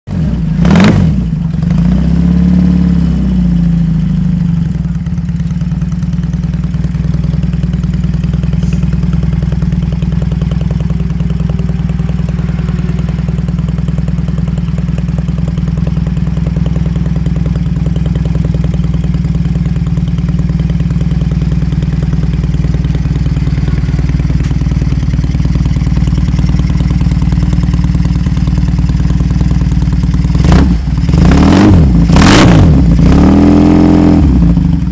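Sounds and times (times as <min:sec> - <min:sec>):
motorcycle engine revving and idling: 0:00.1 - 0:34.9.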